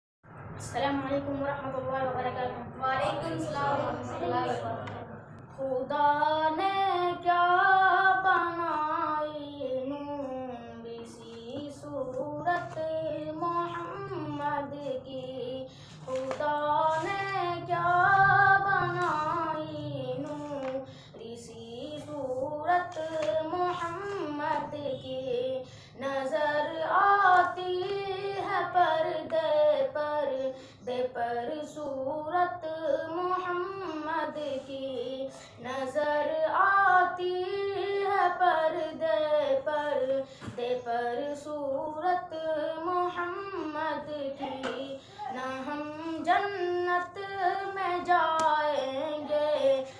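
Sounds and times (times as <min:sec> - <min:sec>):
boy singing unaccompanied: 0:00.6 - 0:49.9.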